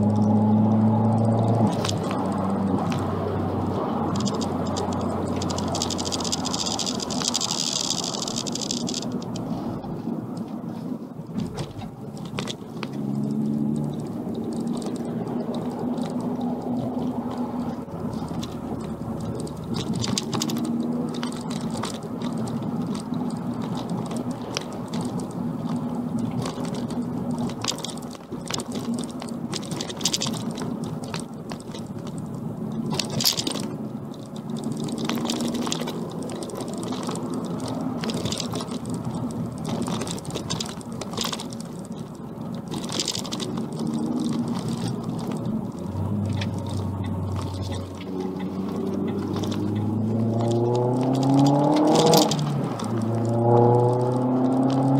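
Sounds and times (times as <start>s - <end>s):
road noise: 0.0s - 54.9s
turbocharged car engine: 0.0s - 54.9s.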